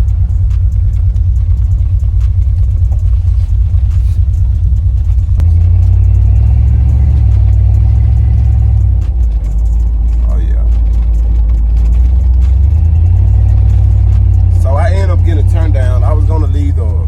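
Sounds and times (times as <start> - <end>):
exhaust rumbling deeply: 0.0 - 17.0.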